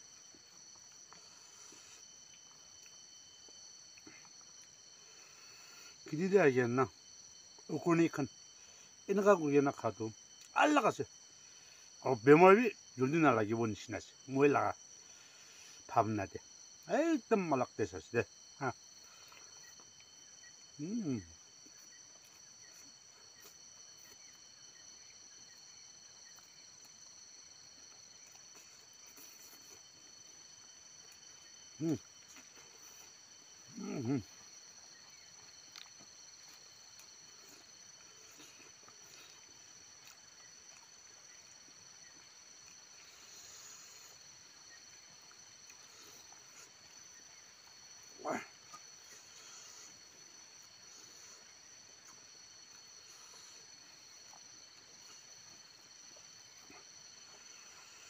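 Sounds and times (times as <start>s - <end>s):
high-pitched insect trilling: 0.0s - 58.0s.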